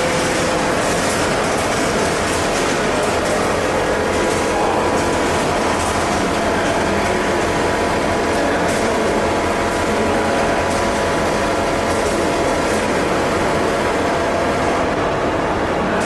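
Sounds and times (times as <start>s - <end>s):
sorting machines mechanical din: 0.0s - 16.0s.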